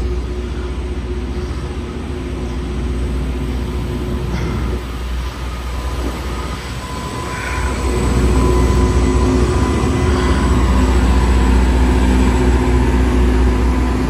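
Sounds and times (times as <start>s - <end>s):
diesel engine drone: 0.0s - 14.0s.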